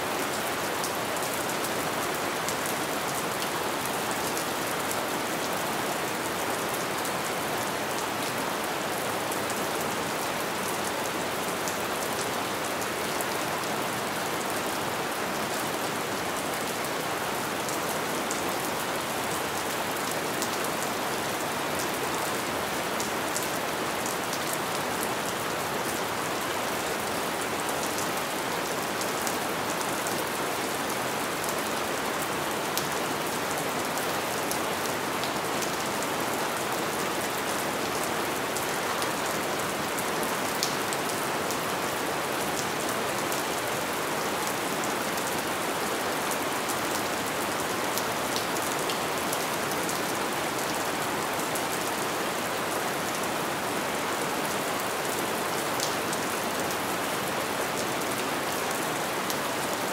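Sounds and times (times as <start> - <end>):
steady light rain: 0.0 - 59.9.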